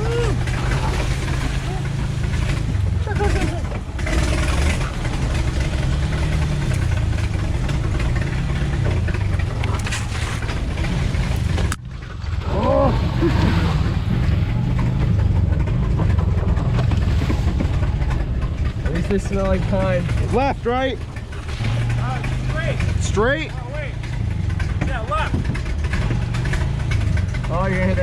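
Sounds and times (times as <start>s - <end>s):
car engine running at low speed: 0.0s - 28.0s.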